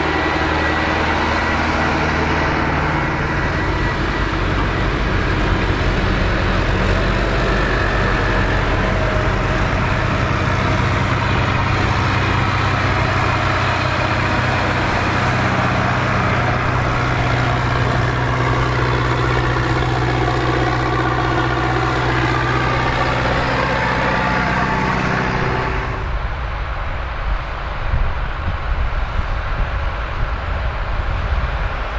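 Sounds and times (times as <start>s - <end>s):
tractor engine running under load: 0.0s - 26.2s.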